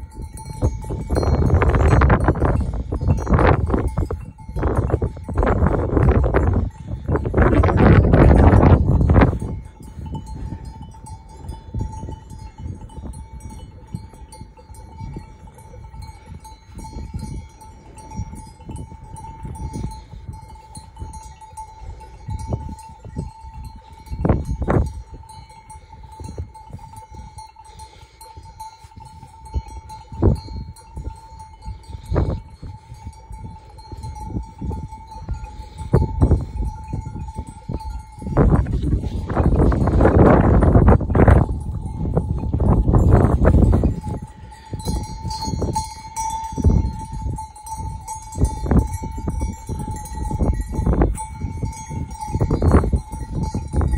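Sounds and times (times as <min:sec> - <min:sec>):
high ringing tone: 0:00.0 - 0:53.9
sheep bells clinking: 0:00.0 - 0:53.9.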